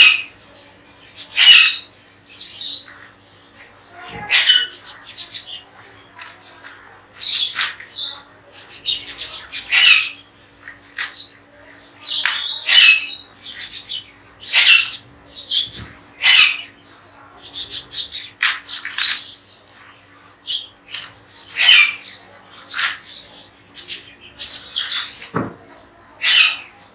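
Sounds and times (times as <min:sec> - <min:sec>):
parrots squawking: 0:01.2 - 0:26.9.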